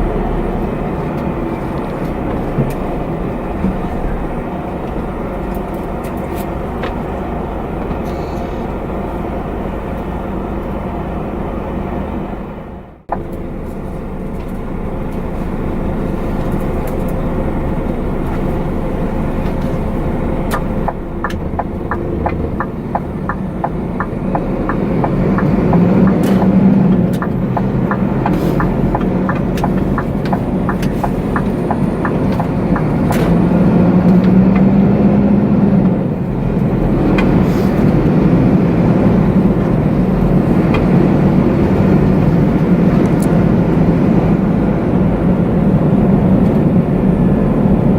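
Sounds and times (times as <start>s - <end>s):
diesel truck engine running: 0.0s - 47.9s
road noise: 0.0s - 47.9s.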